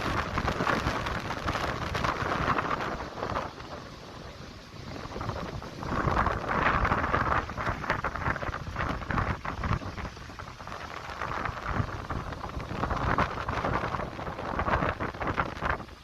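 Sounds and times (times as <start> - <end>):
heavy rain: 0.0 - 16.0
storm wind: 0.0 - 16.0
wind rumbling on microphone: 0.0 - 16.0.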